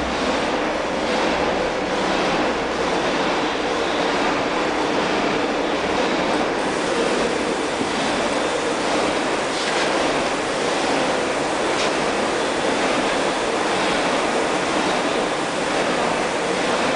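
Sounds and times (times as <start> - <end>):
workshop machinery drone: 0.0 - 16.9.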